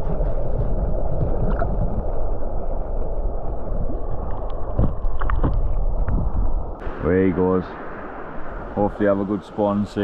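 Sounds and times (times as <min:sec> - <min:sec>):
underwater river rushing: 0:00.0 - 0:10.0.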